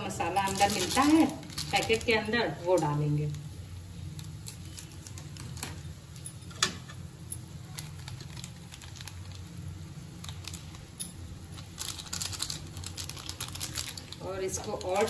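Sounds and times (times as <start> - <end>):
sachet crinkling: 0.0 - 6.2, 7.6 - 15.0
noodles simmering in a pan: 0.0 - 15.0
steady low hum: 0.0 - 15.0.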